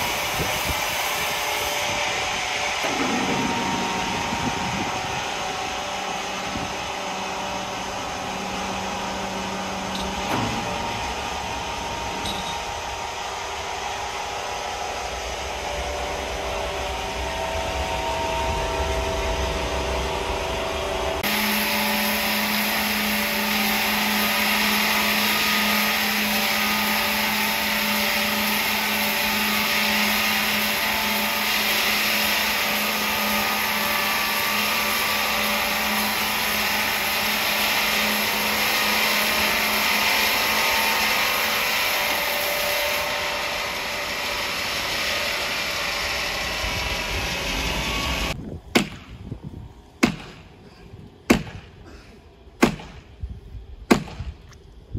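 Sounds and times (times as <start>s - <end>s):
wood saw whirring: 0.0s - 48.4s.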